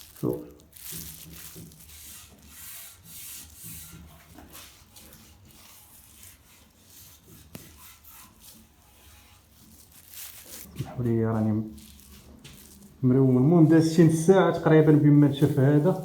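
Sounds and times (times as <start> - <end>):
cloth rubbing on metal: 0.0 - 16.0.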